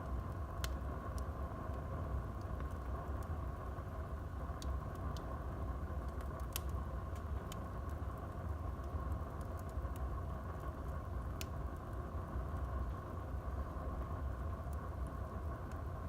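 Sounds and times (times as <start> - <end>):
burning wood crackling and popping: 0.0 - 16.0
low rush of flames: 0.0 - 16.0.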